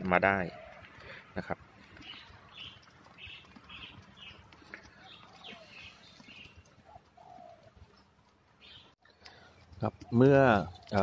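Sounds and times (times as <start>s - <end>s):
small bird chirping: 0.5s - 11.0s.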